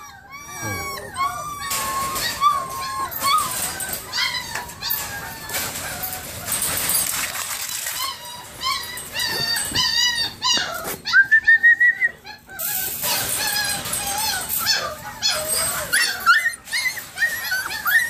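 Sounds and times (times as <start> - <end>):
puppies whining and yelping: 0.0 - 18.0.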